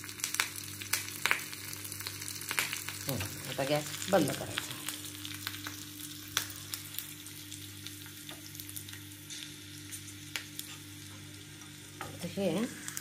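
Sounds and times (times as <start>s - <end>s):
sharp crackles of oil: 0.0s - 10.9s
spices sizzling in hot oil: 0.0s - 13.0s.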